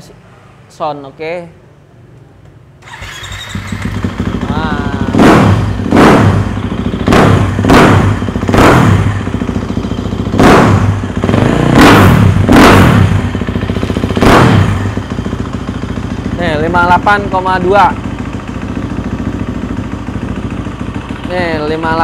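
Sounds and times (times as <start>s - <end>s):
motorcycle engine revving: 2.8s - 22.0s.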